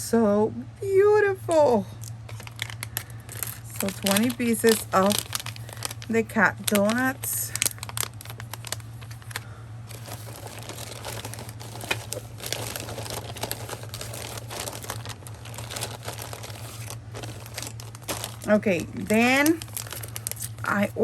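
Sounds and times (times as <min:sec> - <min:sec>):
steady low hum: 0:00.0 - 0:21.0
plastic packaging crinkling: 0:01.4 - 0:21.0
small clicks and crackles: 0:02.0 - 0:20.7.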